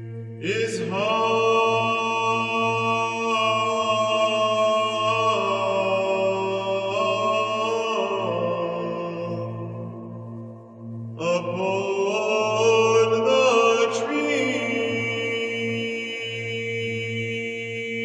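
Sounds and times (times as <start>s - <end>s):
chant music held notes: 0.0s - 18.0s.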